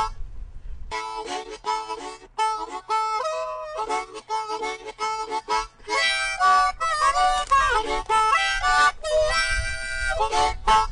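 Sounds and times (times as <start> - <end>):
instrumental music: 0.0 - 10.9.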